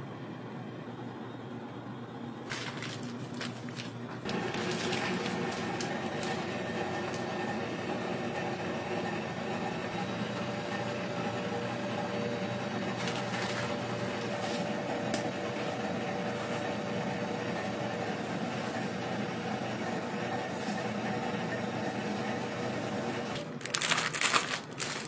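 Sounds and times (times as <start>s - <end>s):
kitchen equipment humming: 2.3s - 25.0s.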